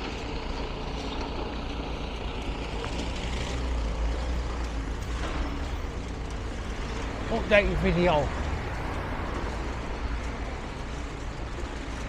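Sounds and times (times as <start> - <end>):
heavy engine rumbling: 0.0 - 12.0
outdoor noise: 0.0 - 12.0.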